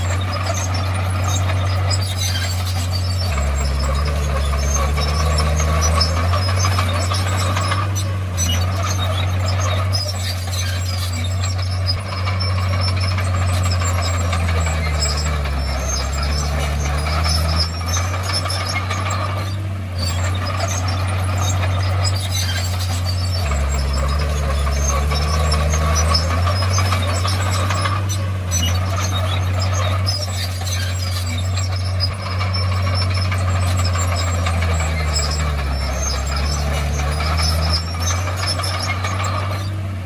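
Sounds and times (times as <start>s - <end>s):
bulldozer diesel engine running: 0.0s - 40.0s
high squealing tracks: 0.0s - 40.0s.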